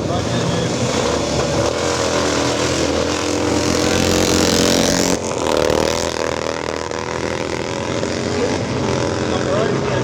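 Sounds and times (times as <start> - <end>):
motorcycle engine at high revs: 0.0 - 10.0.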